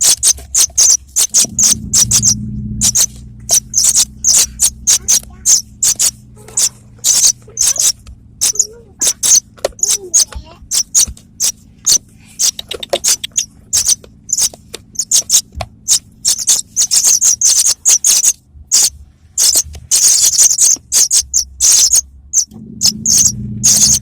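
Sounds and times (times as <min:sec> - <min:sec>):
low hum: 0:00.0 - 0:24.0
pipit chirping: 0:00.0 - 0:24.0.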